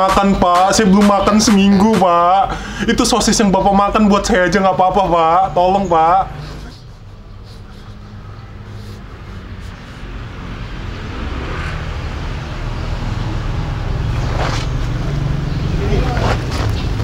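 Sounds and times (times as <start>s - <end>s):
vehicle engine approaching: 0.0s - 17.0s.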